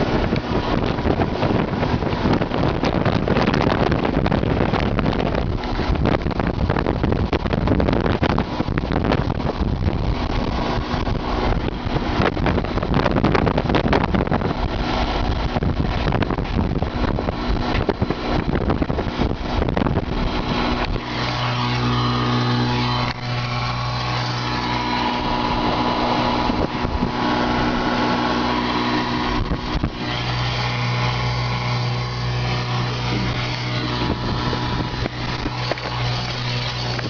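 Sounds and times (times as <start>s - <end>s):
car engine humming: 0.0s - 37.0s
wind buffeting microphone: 0.0s - 37.0s.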